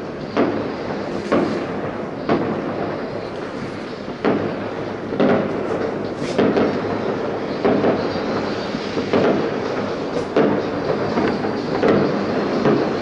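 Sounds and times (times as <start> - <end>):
fireworks booms echoing: 0.0 - 13.0.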